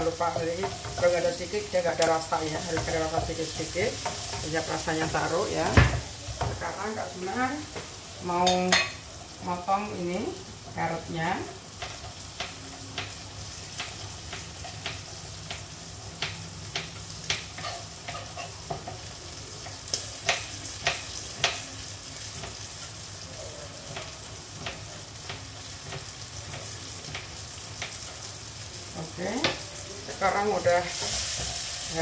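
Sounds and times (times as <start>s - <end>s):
frying sizzle in oil: 0.0s - 32.0s.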